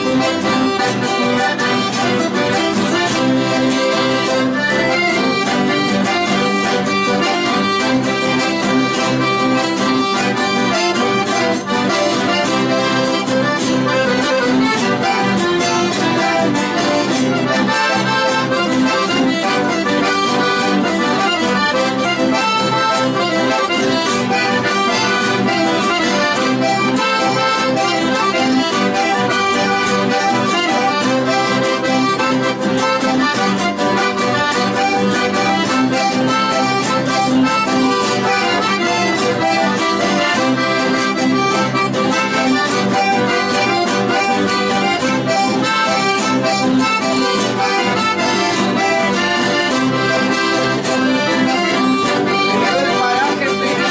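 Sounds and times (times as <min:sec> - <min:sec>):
accordion playing folk dance music: 0:00.0 - 0:53.9.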